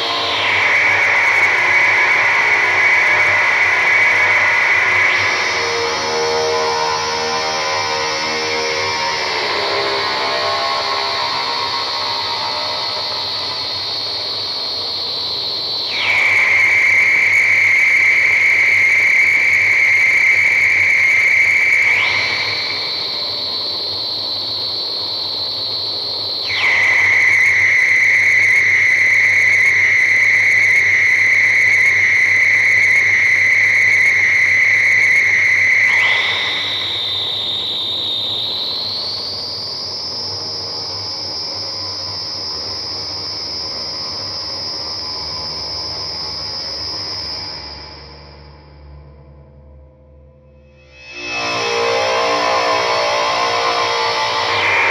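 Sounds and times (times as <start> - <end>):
piercing electronic tone: 0.0 - 48.7, 50.6 - 54.9.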